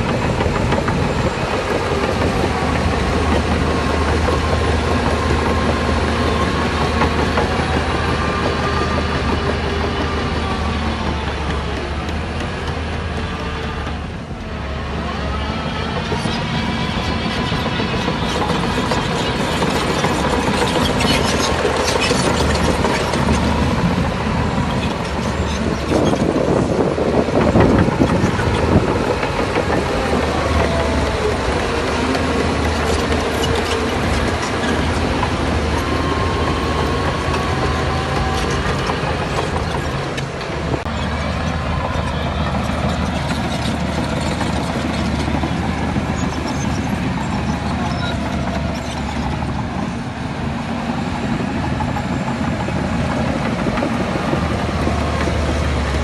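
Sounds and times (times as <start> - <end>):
diesel earthmoving machinery: 0.0 - 56.0.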